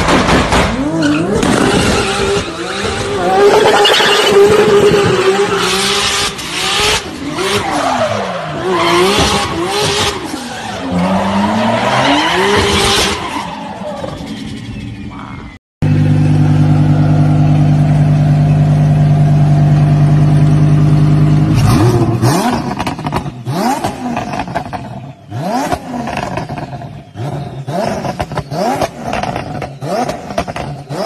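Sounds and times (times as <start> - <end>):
car engine revving: 0.7 - 14.6, 15.8 - 31.0.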